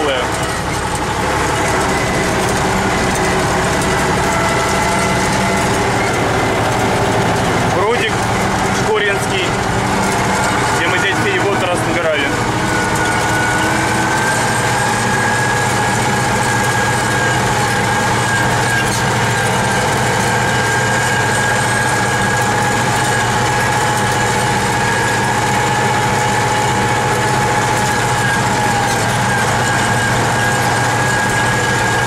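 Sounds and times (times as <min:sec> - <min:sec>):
steady whine: 0:00.0 - 0:32.0
tractor diesel engine running: 0:00.0 - 0:32.0.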